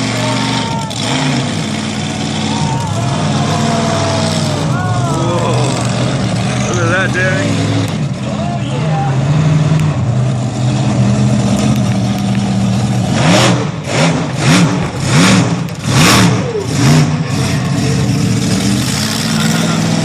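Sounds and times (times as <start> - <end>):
truck engine idling and revving: 0.0 - 20.0.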